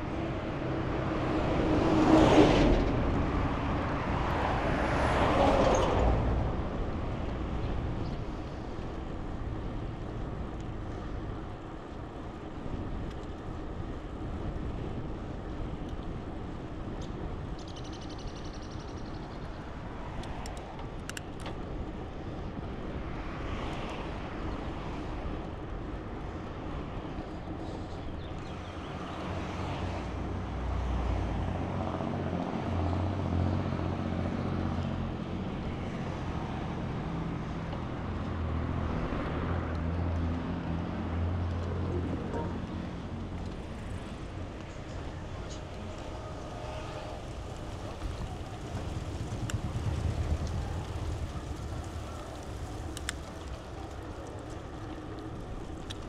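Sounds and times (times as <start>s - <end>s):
passing cars: 0.0s - 56.0s.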